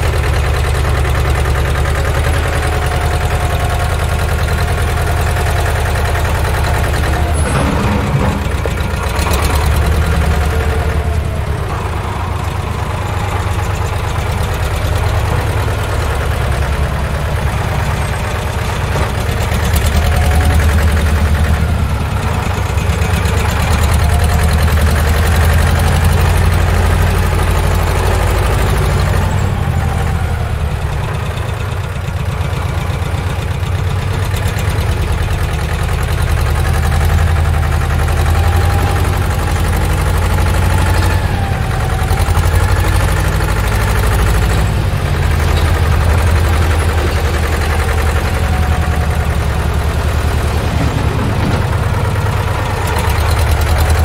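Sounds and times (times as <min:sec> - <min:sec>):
heavy machinery engine idling: 0:00.0 - 0:54.0.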